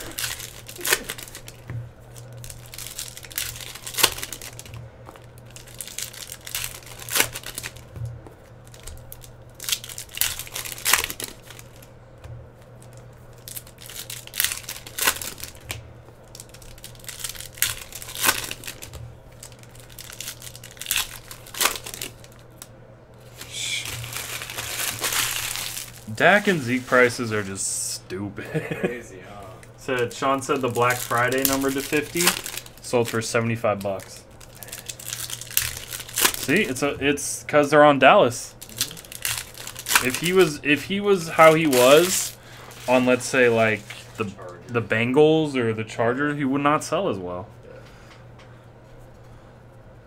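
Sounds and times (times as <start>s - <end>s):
foil wrappers crinkling and tearing: 0.0s - 11.9s, 12.6s - 27.6s, 29.8s - 37.2s, 38.3s - 44.6s
low steady hum: 0.0s - 50.0s.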